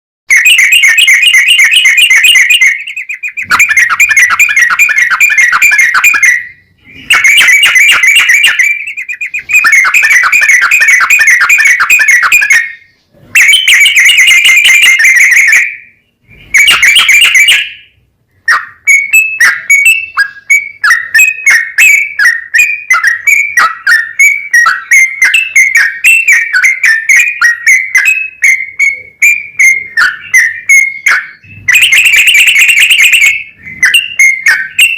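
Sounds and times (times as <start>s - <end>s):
bird downward-sliding notes: 0.3s - 34.9s
bird trilling song: 0.3s - 34.9s.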